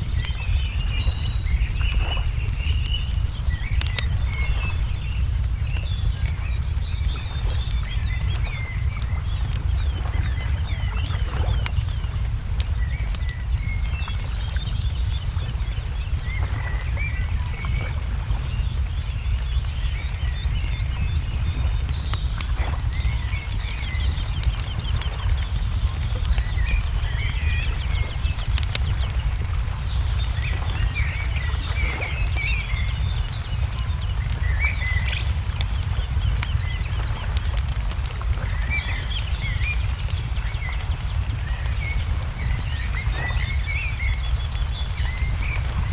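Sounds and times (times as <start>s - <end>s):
crackling wood fire: 0.0s - 45.9s
small birds chirping: 0.0s - 45.9s.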